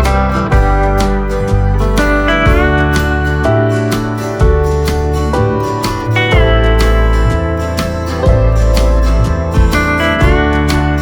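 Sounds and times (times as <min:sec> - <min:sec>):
slide guitar music: 0:00.0 - 0:11.0.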